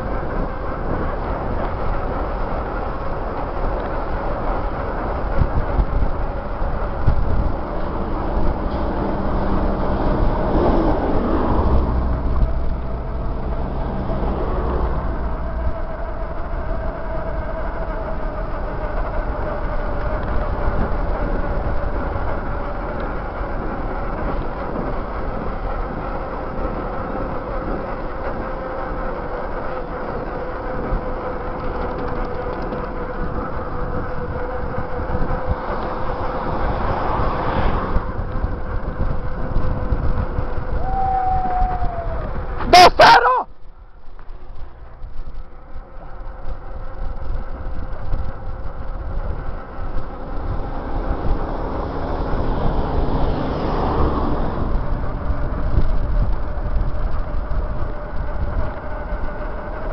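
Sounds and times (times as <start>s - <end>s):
bicycle tyres rolling on asphalt: 0.0s - 59.9s
wind rushing over camera: 0.0s - 59.9s.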